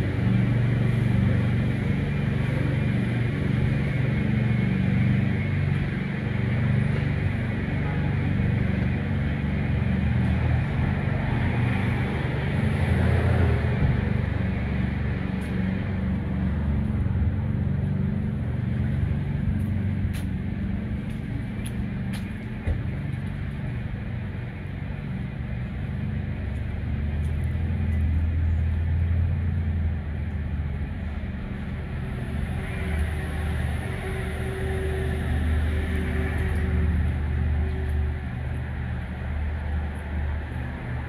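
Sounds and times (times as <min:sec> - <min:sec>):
road vehicle engines rumbling: 0:00.0 - 0:41.0.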